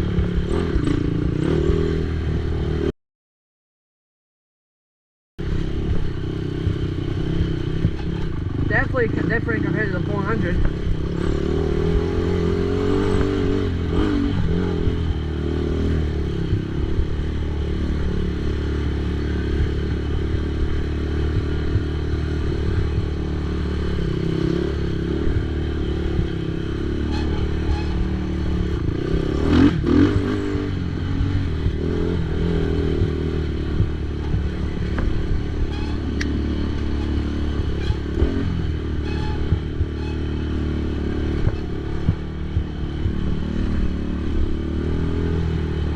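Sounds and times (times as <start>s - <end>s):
atv engine revving: 0.0s - 2.9s, 5.4s - 45.9s.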